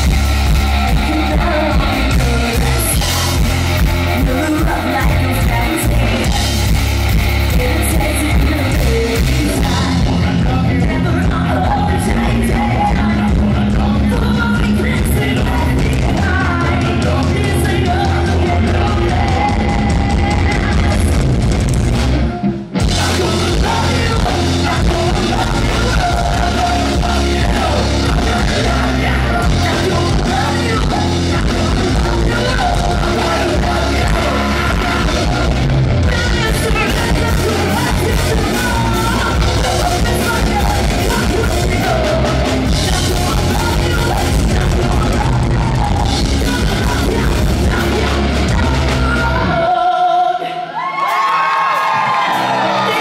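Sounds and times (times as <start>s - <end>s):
shouted and sung vocals: 0.0s - 21.2s, 22.8s - 53.0s
drum kit: 0.0s - 49.7s
bass guitar: 0.0s - 50.4s
distorted electric guitar: 0.0s - 50.8s.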